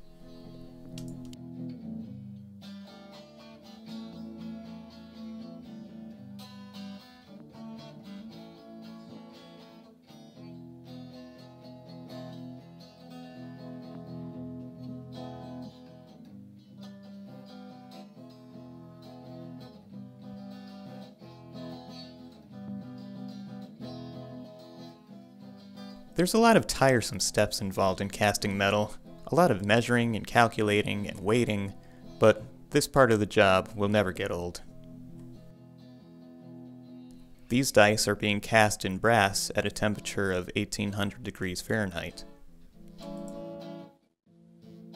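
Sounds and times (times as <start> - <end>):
acoustic guitar picked and strummed: 0.0 - 44.9.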